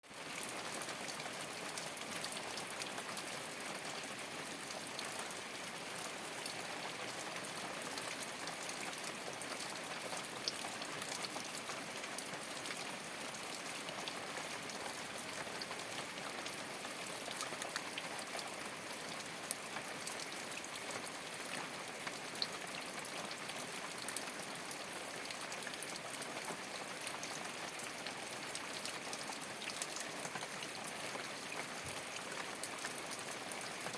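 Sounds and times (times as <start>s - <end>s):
rain on a straw roof: 0.0s - 33.9s.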